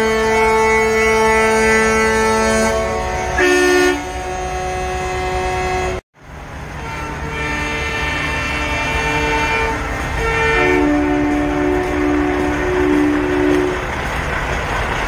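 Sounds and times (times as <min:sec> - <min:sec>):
loud horn: 0:00.0 - 0:06.0, 0:06.8 - 0:13.9
vehicle horns blasting: 0:00.0 - 0:06.0, 0:06.8 - 0:13.8.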